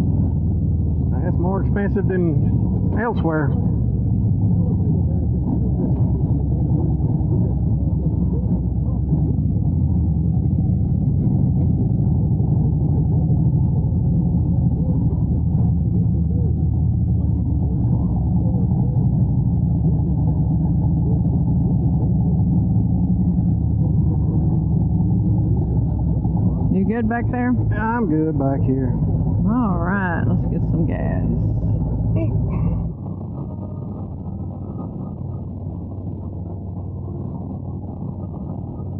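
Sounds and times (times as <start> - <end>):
motorcycle engine low rumble: 0.0 - 38.9.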